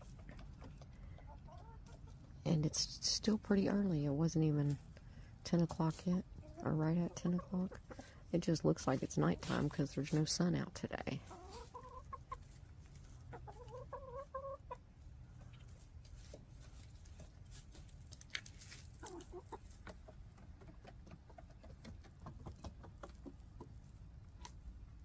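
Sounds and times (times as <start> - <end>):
hens clucking: 0.0 - 4.9, 5.5 - 17.4, 18.4 - 24.9.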